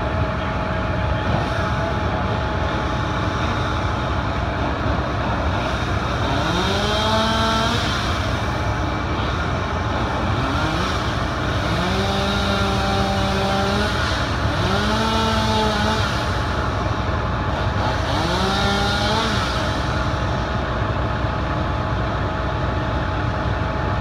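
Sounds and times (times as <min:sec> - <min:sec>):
fire truck engine running: 0:00.0 - 0:24.0.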